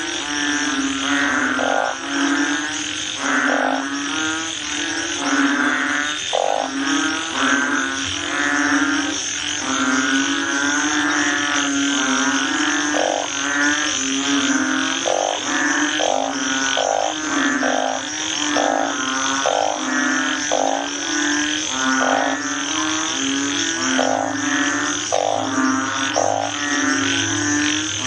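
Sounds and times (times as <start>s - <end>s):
frogs croaking: 0.0s - 28.0s.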